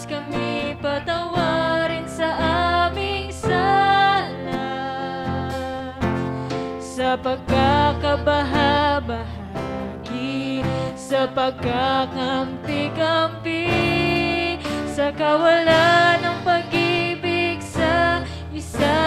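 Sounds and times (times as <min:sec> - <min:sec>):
acoustic guitar: 0:00.0 - 0:19.0
woman singing worship song: 0:00.0 - 0:19.0.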